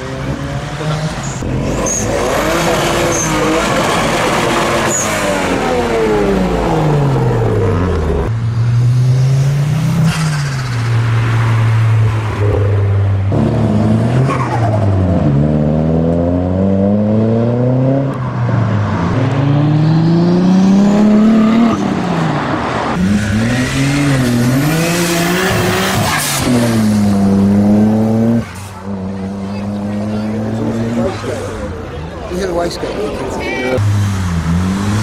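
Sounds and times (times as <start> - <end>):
performance cars accelerating hard: 0.0 - 35.0.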